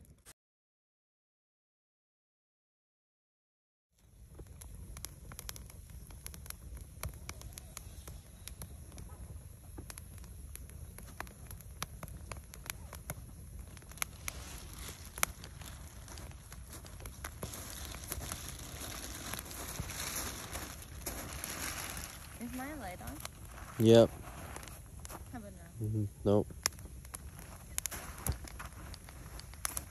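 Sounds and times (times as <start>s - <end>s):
campfire crackling: 4.0s - 29.9s
fire snaps and pops: 4.0s - 29.9s
hiss: 5.5s - 29.9s.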